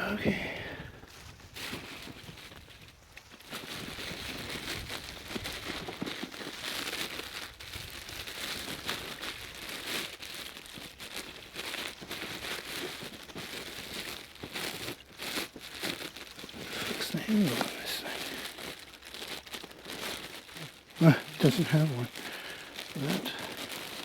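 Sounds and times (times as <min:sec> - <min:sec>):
dry tinder crinkling and tearing: 0:00.8 - 0:24.0.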